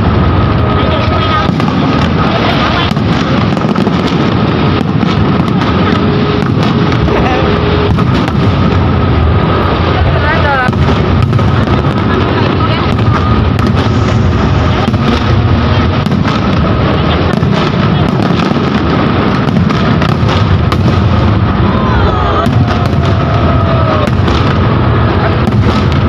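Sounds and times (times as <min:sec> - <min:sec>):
fireworks bangs and crackle: 0:00.0 - 0:26.0.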